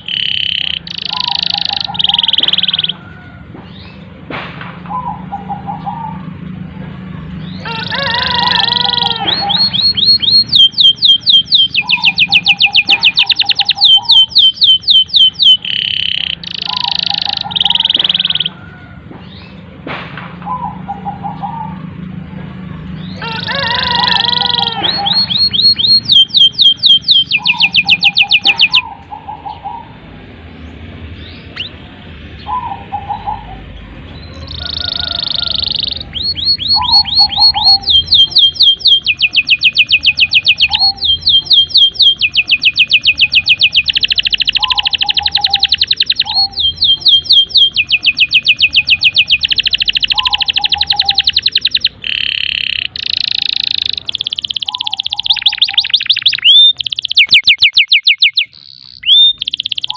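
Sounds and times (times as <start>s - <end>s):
lower canary warbling: 0.0s - 4.0s, 4.9s - 6.4s, 7.1s - 19.5s, 22.7s - 30.4s, 31.2s - 59.9s
canary singing trills: 0.0s - 4.2s, 4.8s - 19.8s, 20.4s - 59.9s.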